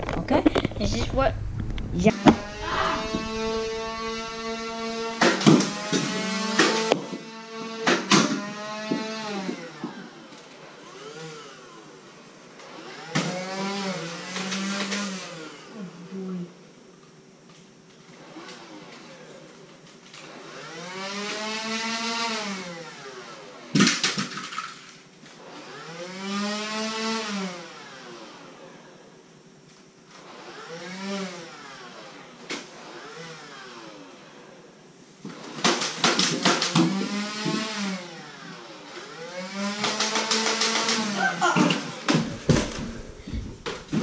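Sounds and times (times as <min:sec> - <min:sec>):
toy blaster motor whine: 0:02.1 - 0:16.6, 0:18.1 - 0:29.2, 0:30.1 - 0:44.0.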